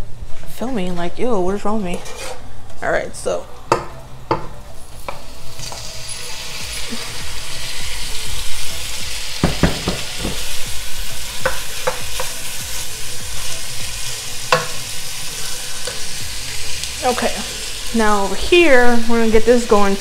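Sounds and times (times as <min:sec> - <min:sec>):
meat sizzling in hot fat: 0:03.6 - 0:20.0.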